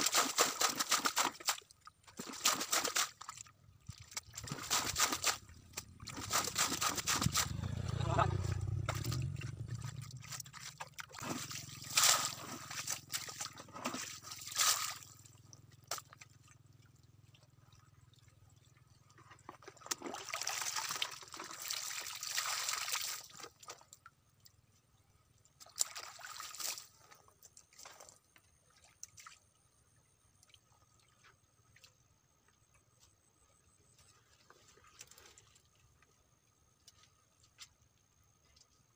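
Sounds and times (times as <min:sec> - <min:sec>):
water sloshing from a bucket: 0:00.0 - 0:29.7, 0:30.3 - 0:38.9.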